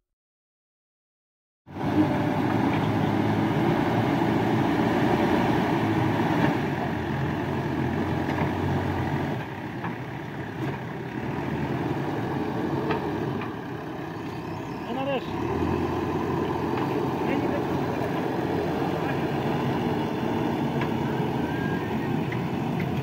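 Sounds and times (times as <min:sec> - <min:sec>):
diesel engine running: 0:01.7 - 0:23.0.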